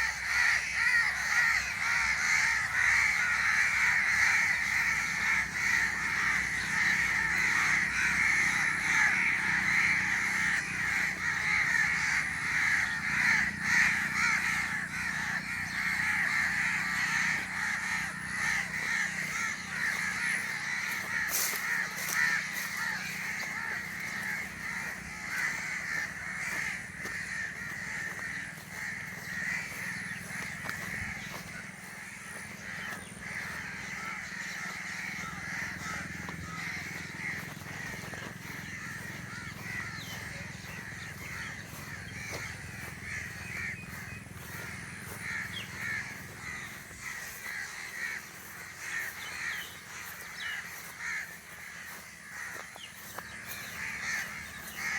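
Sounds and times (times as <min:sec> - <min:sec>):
chorus of birds calling: 0:00.0 - 0:54.9.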